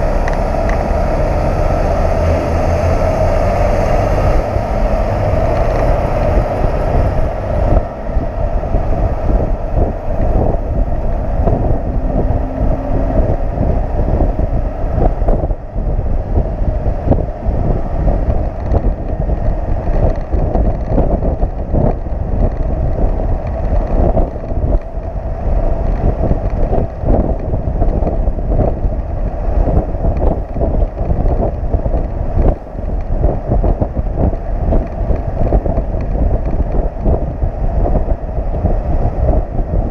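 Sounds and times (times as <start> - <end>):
road noise: 0.0 - 39.9
truck engine running: 0.0 - 39.9
wind buffeting a microphone: 0.0 - 39.9.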